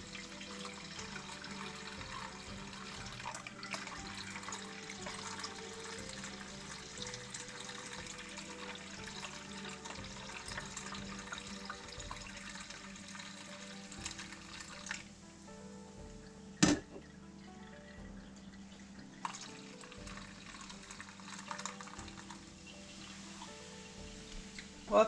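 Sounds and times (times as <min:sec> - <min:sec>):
milk pouring into a glass jar: 0:00.0 - 0:15.1, 0:16.0 - 0:24.9
background music: 0:00.0 - 0:25.0.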